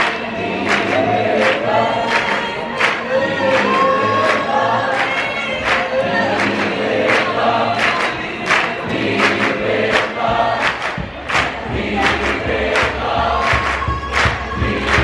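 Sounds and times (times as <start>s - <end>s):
choir singing in parts: 0.0s - 15.0s.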